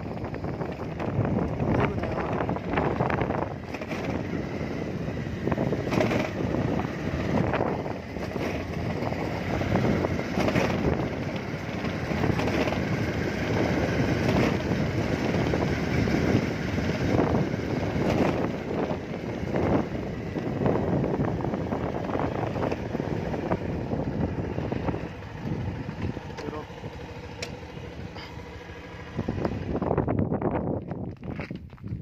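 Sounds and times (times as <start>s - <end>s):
motorbike engine: 0.0s - 32.0s
wind buffeting microphone: 0.0s - 32.0s.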